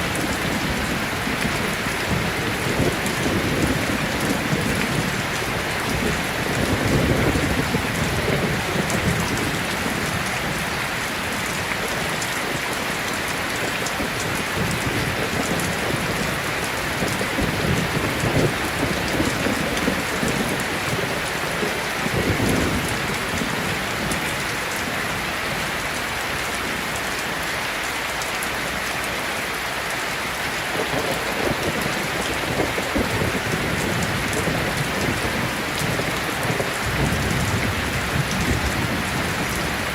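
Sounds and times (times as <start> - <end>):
distant thunder rumbling: 0.0 - 25.8, 30.7 - 39.9
steady rain pouring: 0.0 - 39.9.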